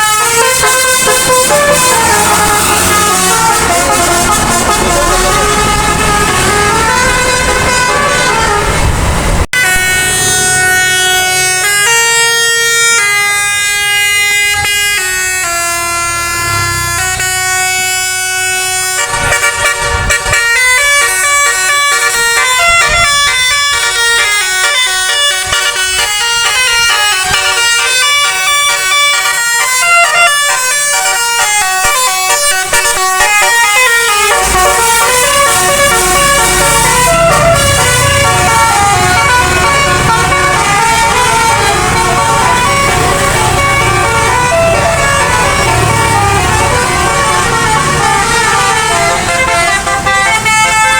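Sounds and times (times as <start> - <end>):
musical air horns playing tunes: 0.0 - 50.9.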